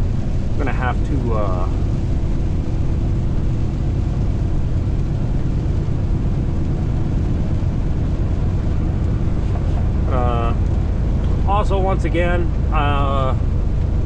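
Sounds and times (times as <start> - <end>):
faint hum: 0.0 - 14.0
truck engine and road noise: 0.0 - 14.0.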